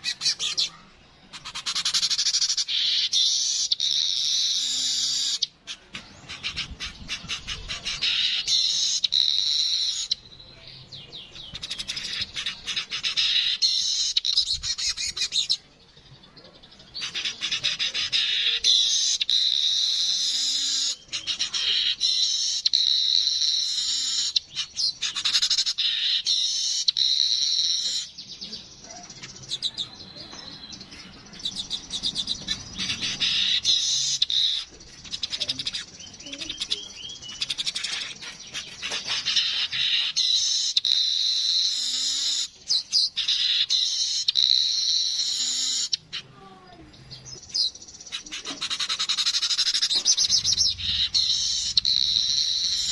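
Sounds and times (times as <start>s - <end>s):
bird buzzy chattering song: 0.0s - 52.9s.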